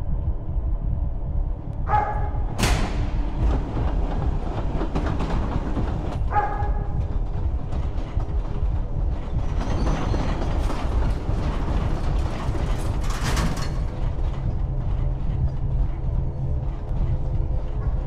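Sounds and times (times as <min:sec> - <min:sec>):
low mechanical rumble: 0:00.0 - 0:18.0
creaks and rattles: 0:01.6 - 0:18.0.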